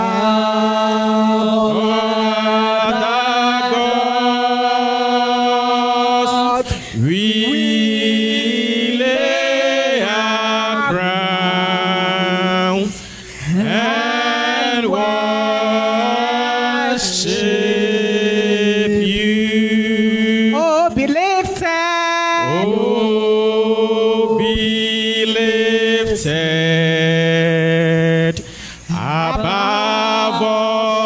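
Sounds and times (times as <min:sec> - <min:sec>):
woman singing worship song: 0:00.0 - 0:31.0.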